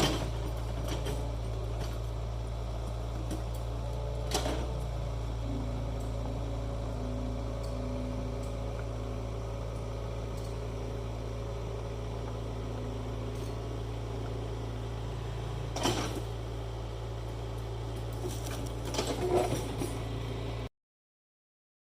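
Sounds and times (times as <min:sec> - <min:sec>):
excavator diesel engine humming: 0:00.0 - 0:20.7.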